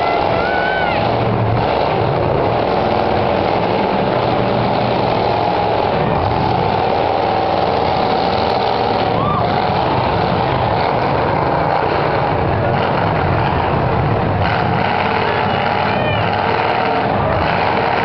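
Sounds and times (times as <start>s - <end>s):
car engines running: 0.0s - 18.0s.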